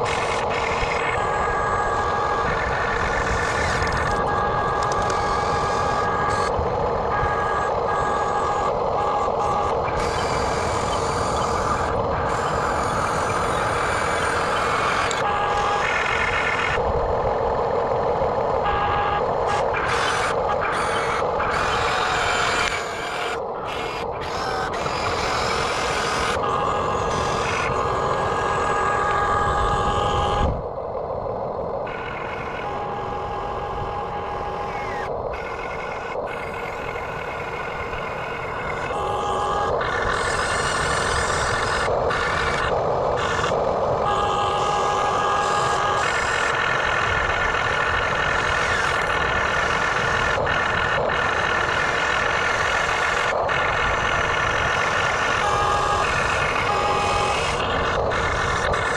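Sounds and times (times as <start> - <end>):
electric motors whining: 0.0 - 30.9, 31.5 - 58.9
higher motor whines: 0.0 - 58.9.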